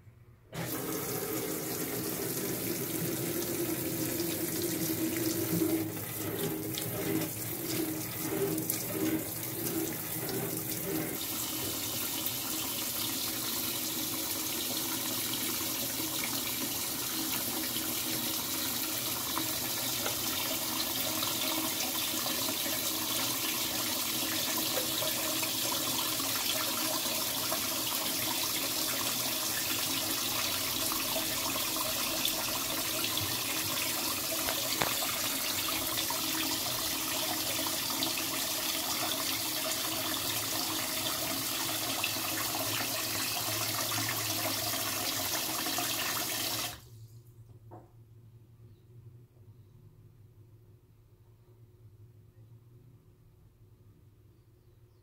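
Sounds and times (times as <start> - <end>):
water pouring into washer drum: 0.6 - 46.8.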